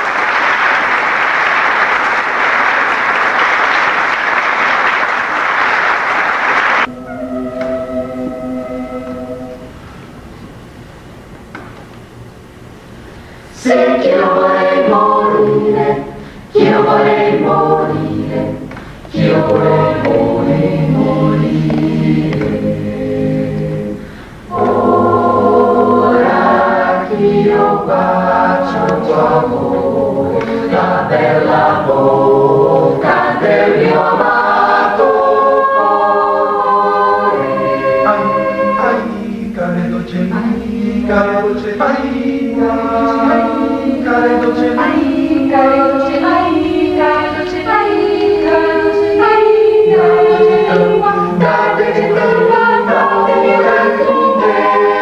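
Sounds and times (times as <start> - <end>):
choir singing a cappella: 6.8 - 9.8, 13.5 - 55.0.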